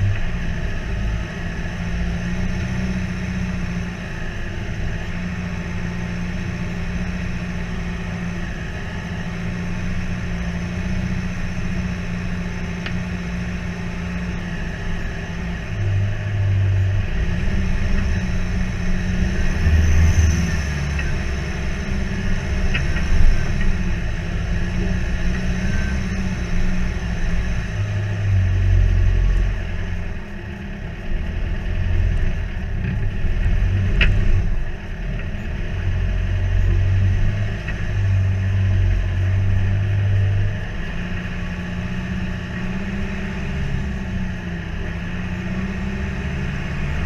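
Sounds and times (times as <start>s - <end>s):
truck engine rumbling: 0.0s - 47.0s.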